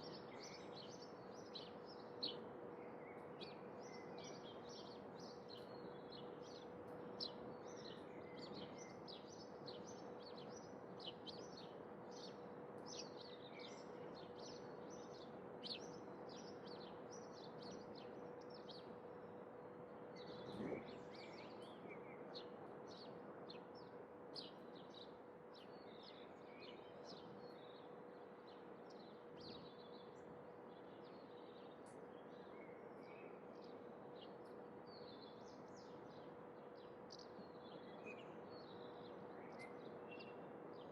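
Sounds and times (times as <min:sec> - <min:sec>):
faint constant hum: 0:00.0 - 0:40.9.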